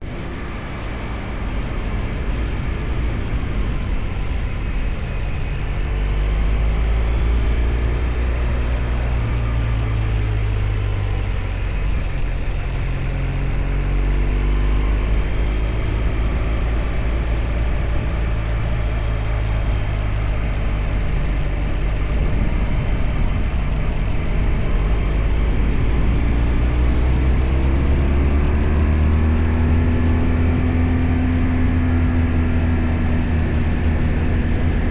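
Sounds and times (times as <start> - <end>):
motorcycle engine running: 4.1 - 34.9.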